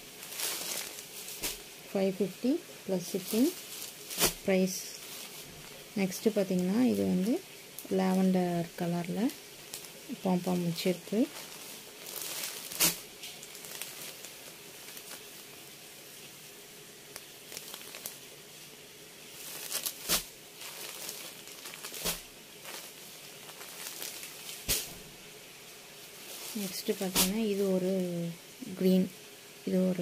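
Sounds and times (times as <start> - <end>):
cloth rustling: 0.0 - 16.3, 17.2 - 18.4, 19.2 - 25.2, 25.8 - 28.6.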